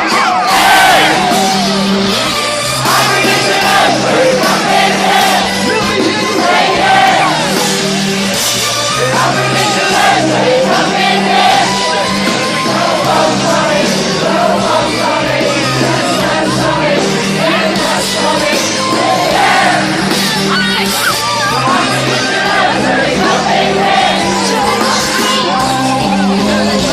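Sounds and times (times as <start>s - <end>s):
amplified singing: 0.0s - 20.6s, 21.2s - 26.9s
bass line: 0.0s - 26.9s
crowd shouting: 0.0s - 26.9s
live pop-rock band: 0.0s - 26.9s.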